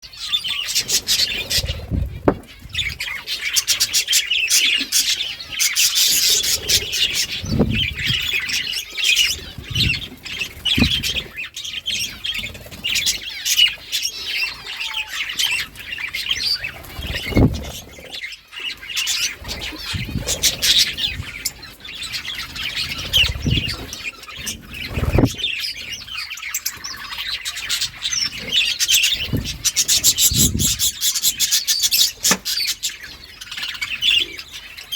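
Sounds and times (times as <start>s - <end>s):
budgerigars chirping: 0.1s - 34.9s.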